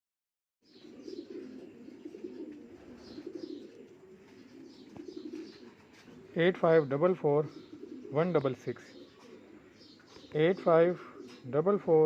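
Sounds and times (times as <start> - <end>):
pigeons cooing: 0.6 - 12.0.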